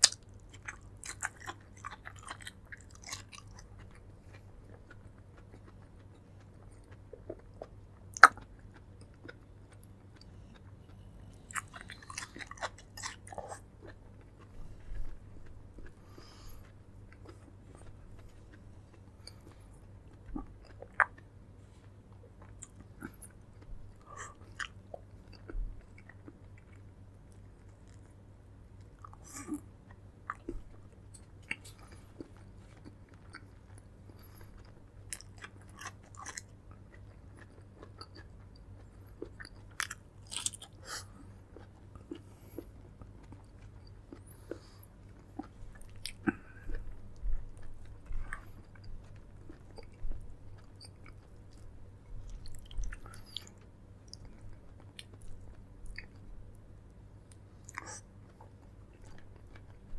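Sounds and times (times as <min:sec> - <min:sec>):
low steady hum: 0:00.0 - 0:59.9
person chewing food: 0:00.0 - 0:59.9.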